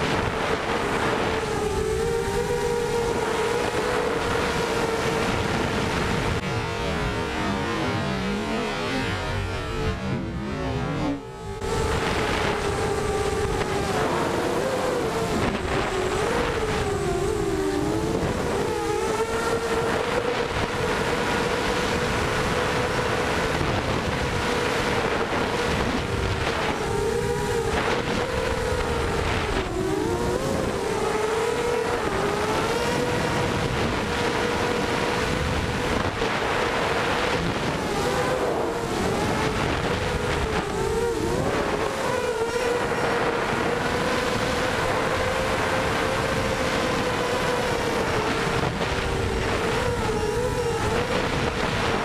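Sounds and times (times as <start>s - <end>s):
quadcopter motors whining: 0.0s - 52.0s
wind noise on microphone: 0.0s - 52.0s.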